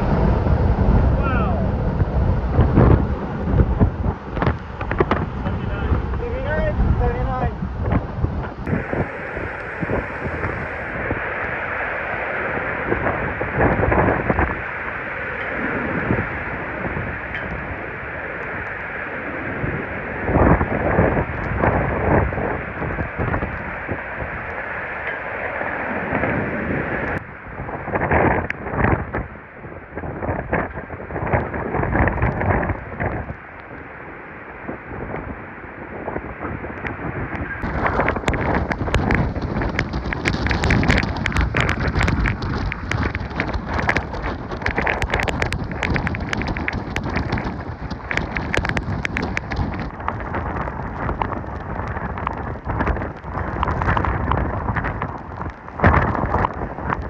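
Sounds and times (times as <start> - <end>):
hurricane wind gusts: 0.0 - 57.0
rain battering microphone: 0.0 - 57.0.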